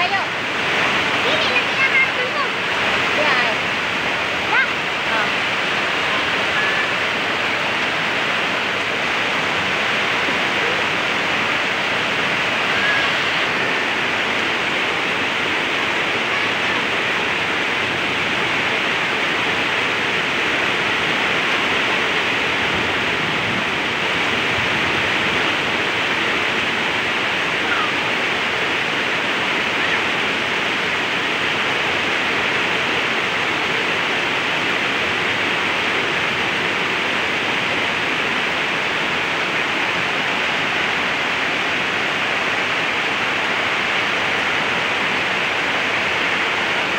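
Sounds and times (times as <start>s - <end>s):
water rushing over falls: 0.0s - 46.9s.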